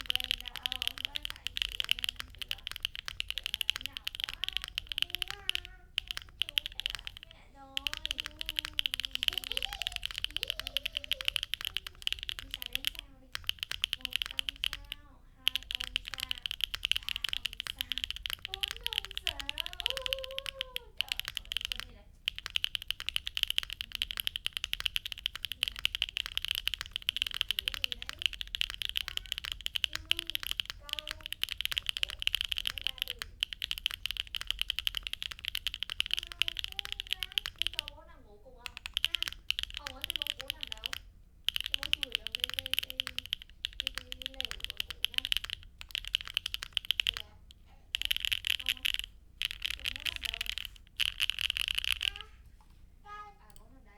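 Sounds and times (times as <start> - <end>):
fast typing on mechanical keyboard: 0.0 - 52.3.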